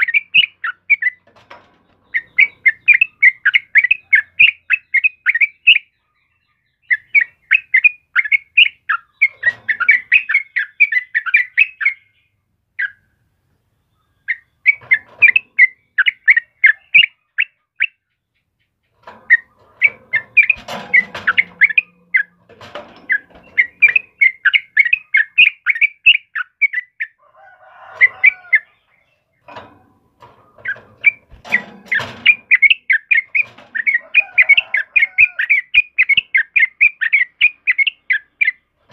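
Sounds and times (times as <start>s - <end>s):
bird chattering: 0.0s - 13.2s, 14.0s - 29.8s, 30.4s - 38.9s.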